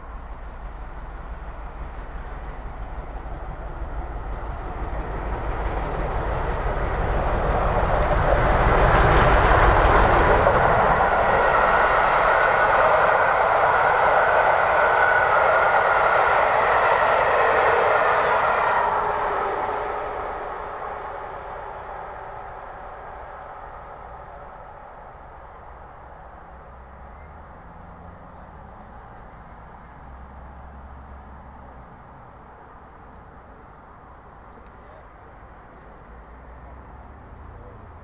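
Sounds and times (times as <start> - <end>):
steam locomotive passing: 0.0 - 38.0
train coaches rolling past: 0.0 - 38.0.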